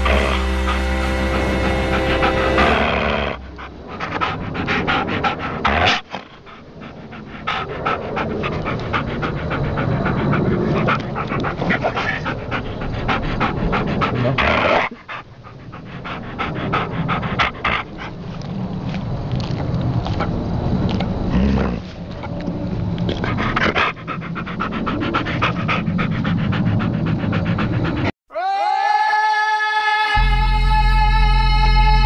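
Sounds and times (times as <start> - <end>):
dog panting rapidly: 0.0 - 20.3, 21.6 - 28.1.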